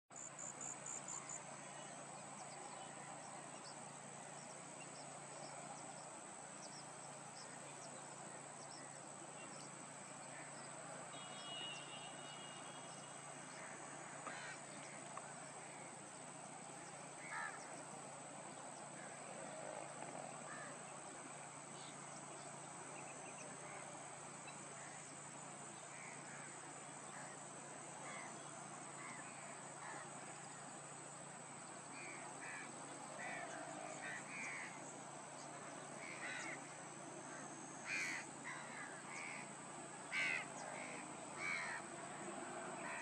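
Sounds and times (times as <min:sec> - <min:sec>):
insect drone: 0:00.1 - 0:43.0
soft hiss: 0:00.1 - 0:43.0.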